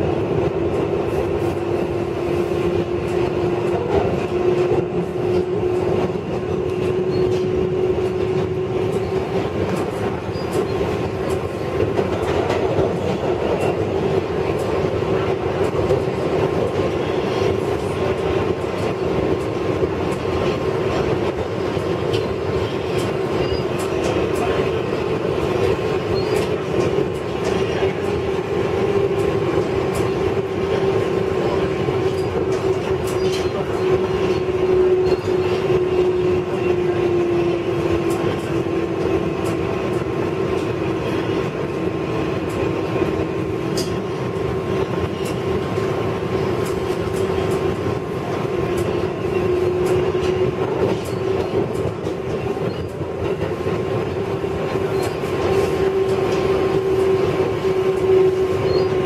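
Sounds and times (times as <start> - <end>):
subway wheels rumbling on rail: 0.0 - 59.0.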